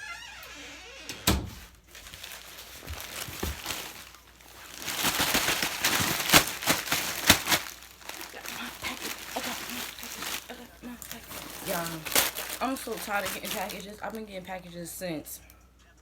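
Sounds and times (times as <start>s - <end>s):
package crinkling and rustling: 1.6s - 15.1s.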